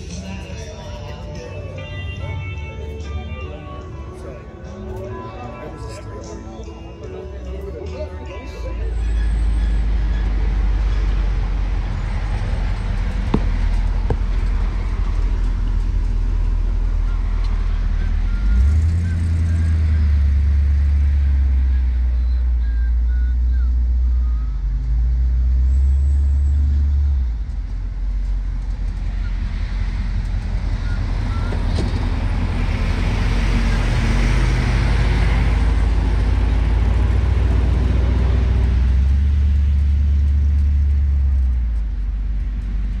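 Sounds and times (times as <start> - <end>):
engine rumbling: 0.0 - 43.0.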